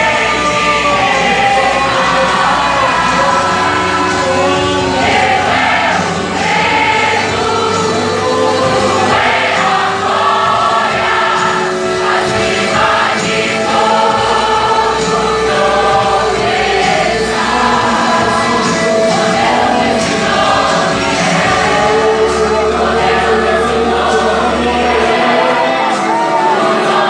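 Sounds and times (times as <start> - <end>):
choir singing worship song: 0.0 - 27.0
musical accompaniment: 0.0 - 27.0.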